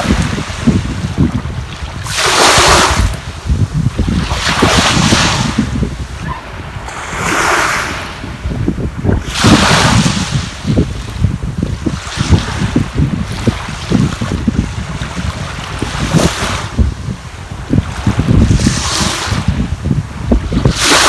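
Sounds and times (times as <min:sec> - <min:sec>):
sea waves washing in: 0:00.0 - 0:21.0
wind buffeting microphone: 0:00.0 - 0:21.0.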